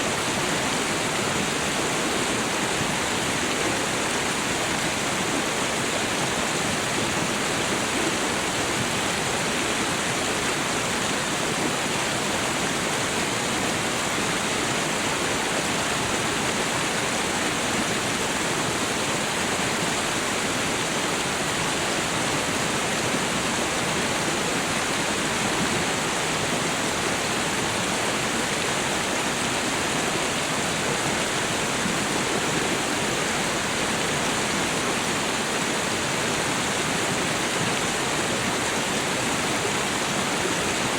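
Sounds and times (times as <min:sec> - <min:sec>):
water rushing over waterfall: 0:00.0 - 0:40.9.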